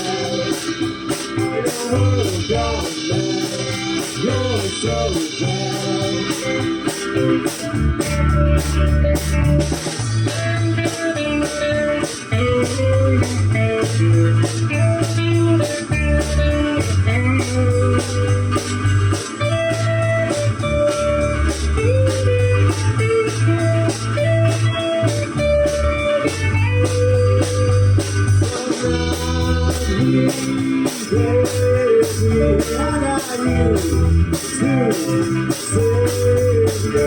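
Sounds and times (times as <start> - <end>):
bass guitar: 0.0 - 37.0
electric guitar melody: 0.0 - 37.0
steady drum beat: 0.0 - 37.0.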